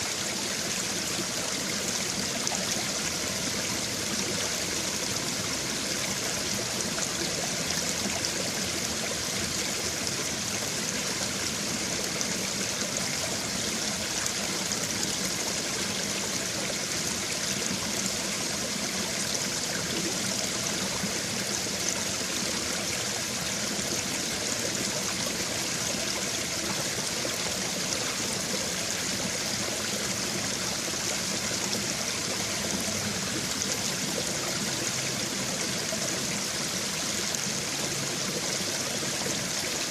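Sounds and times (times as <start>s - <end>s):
brook water running over stones: 0.0s - 39.9s.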